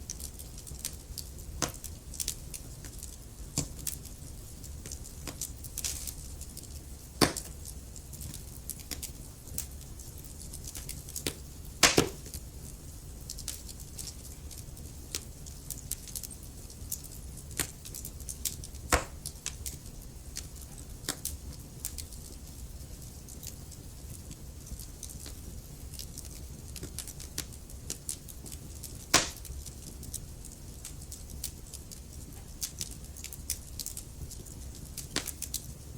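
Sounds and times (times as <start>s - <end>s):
fire crackling: 0.0s - 35.9s
low rumble of flames: 0.0s - 35.9s
fire pops: 0.1s - 35.8s.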